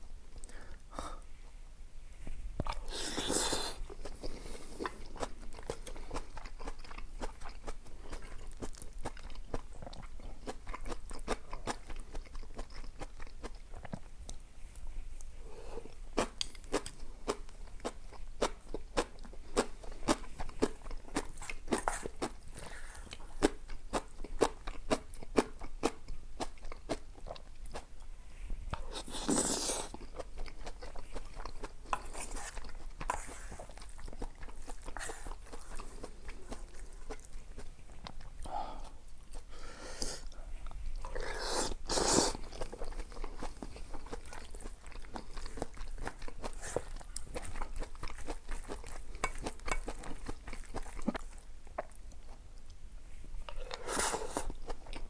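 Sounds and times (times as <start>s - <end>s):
person chewing crunchy food: 2.6s - 14.4s, 15.8s - 28.0s, 28.7s - 52.4s, 53.4s - 55.0s.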